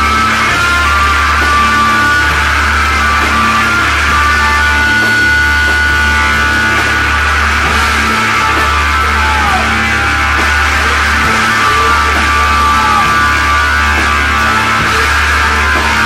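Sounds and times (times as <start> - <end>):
heavy psychedelic rock: 0.0 - 16.0.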